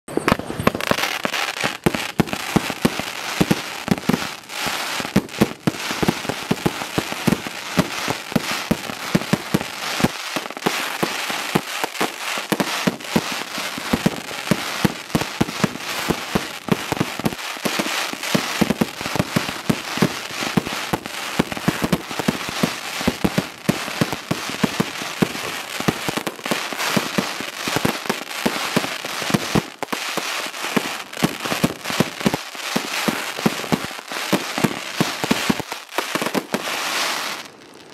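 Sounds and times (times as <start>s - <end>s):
fireworks crackling: 0.1s - 37.9s.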